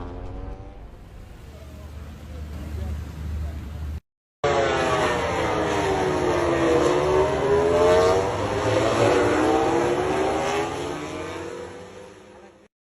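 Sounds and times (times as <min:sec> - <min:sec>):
racing motorcycle engines revving: 0:00.0 - 0:03.0, 0:04.4 - 0:12.7.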